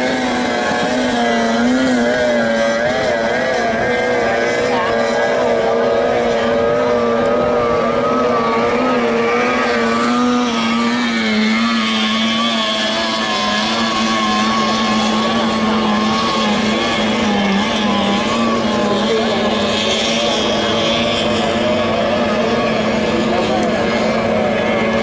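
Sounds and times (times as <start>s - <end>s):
racing boat outboard motors whining: 0.0s - 25.0s.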